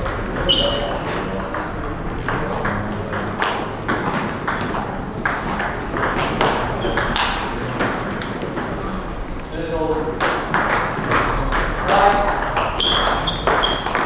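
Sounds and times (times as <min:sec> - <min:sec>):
ping pong ball ticking: 0:00.0 - 0:08.8, 0:09.9 - 0:14.0.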